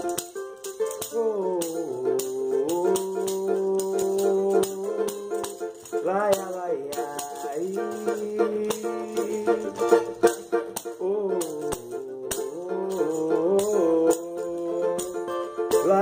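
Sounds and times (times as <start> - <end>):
held melody notes: 0.0 - 16.0
shaker rattle beat: 0.0 - 16.0.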